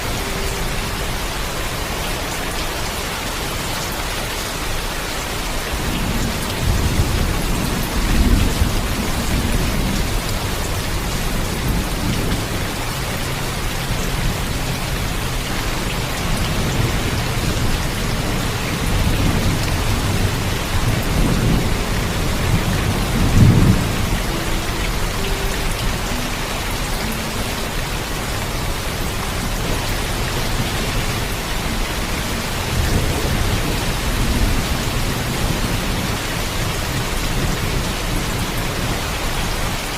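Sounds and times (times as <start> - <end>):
heavy steady rain: 0.0 - 39.9.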